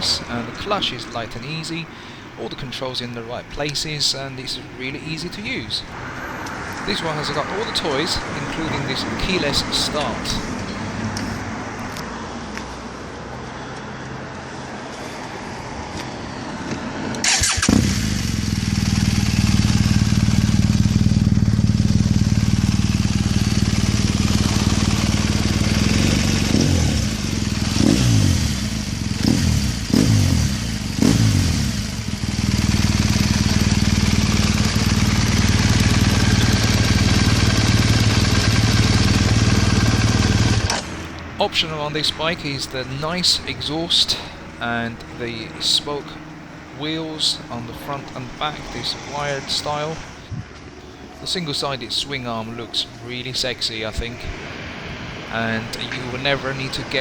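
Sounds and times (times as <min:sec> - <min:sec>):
motorcycle engine starting and idling: 0:00.0 - 0:12.0, 0:17.1 - 0:57.0
motorcycle engine revving: 0:04.9 - 0:12.0, 0:17.2 - 0:57.0.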